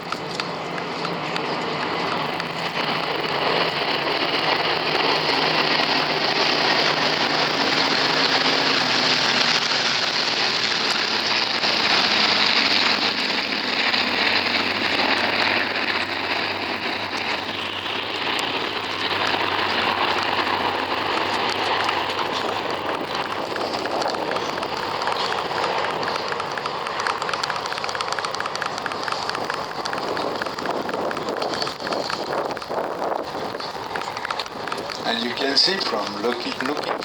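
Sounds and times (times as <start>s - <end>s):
propeller plane engines droning: 0.0s - 37.0s.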